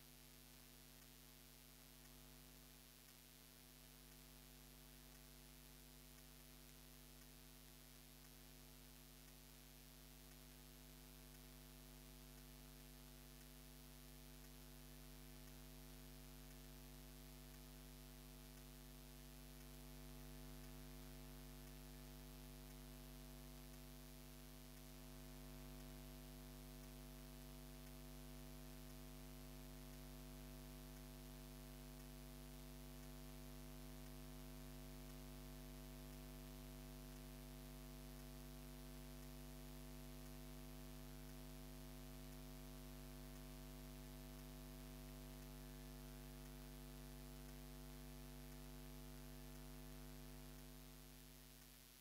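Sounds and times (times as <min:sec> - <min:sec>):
faint electrical mains hum: 0:00.0 - 0:52.0
light hiss: 0:00.0 - 0:52.0.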